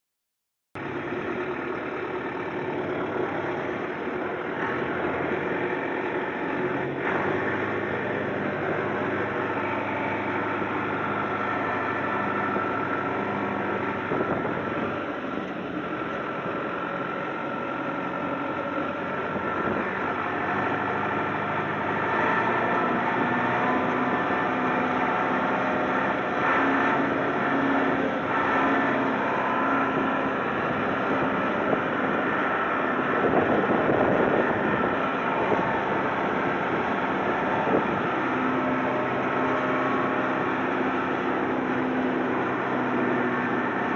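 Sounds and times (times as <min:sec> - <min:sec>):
low drone: 0:00.8 - 0:43.9
vehicle engine humming: 0:00.8 - 0:43.9.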